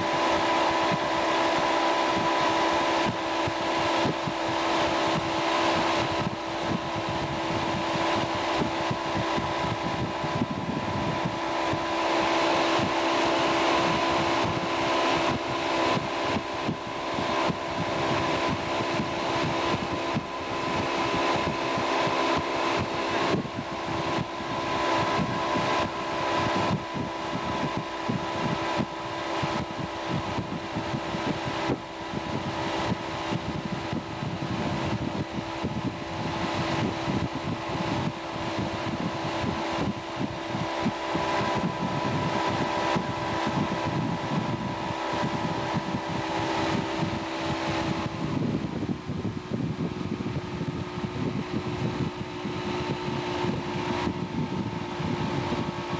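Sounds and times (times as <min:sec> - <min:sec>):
motorboat engine running: 0:00.0 - 0:55.9
wind buffeting microphone: 0:00.0 - 0:55.9.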